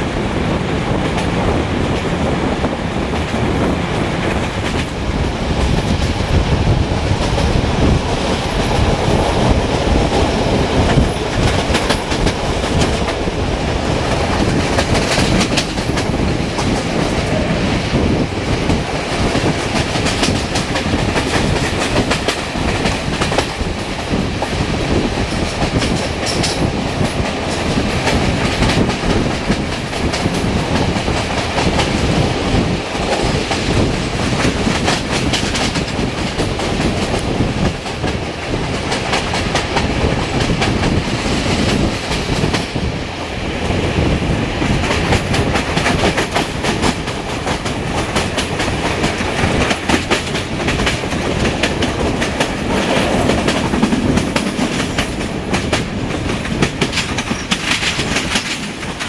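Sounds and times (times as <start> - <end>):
clickety-clack of rail joints: 0.0 - 59.0
train wheels rumbling on rails: 0.0 - 59.0.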